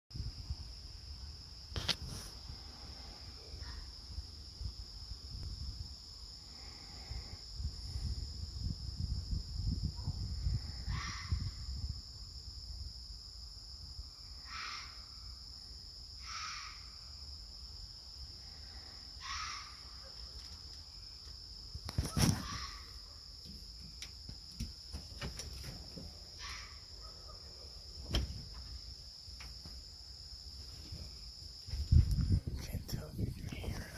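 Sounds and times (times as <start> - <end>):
high-pitched insect trill: 0.1 - 33.9.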